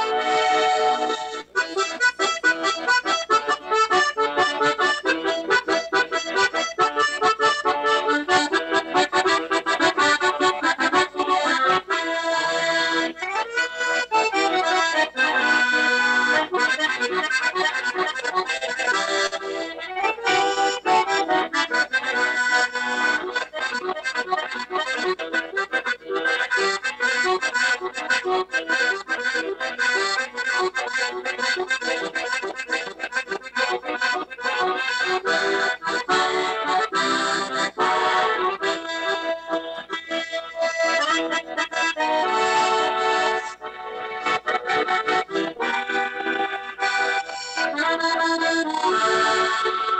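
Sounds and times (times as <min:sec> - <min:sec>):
accordion playing rhythmic tune: 0:00.0 - 0:49.9.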